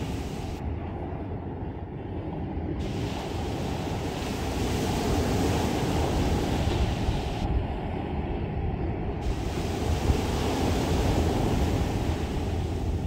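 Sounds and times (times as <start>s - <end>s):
sea waves breaking on beach: 0.0s - 0.6s, 2.8s - 13.0s.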